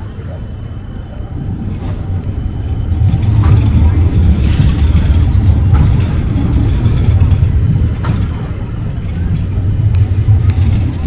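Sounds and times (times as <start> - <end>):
low rumble of motor traffic: 0.0 - 11.0.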